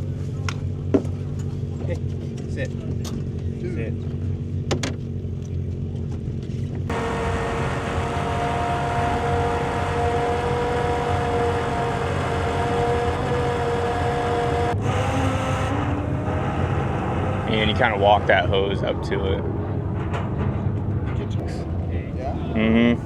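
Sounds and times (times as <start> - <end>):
engine drone with whine: 0.0 - 23.0
vehicle engine humming: 0.0 - 23.0.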